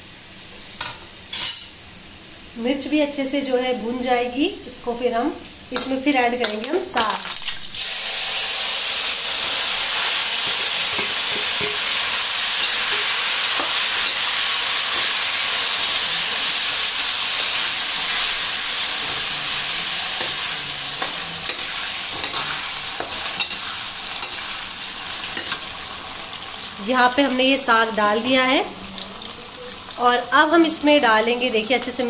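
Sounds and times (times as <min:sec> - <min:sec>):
greens sizzling in hot oil: 0:05.5 - 0:32.0.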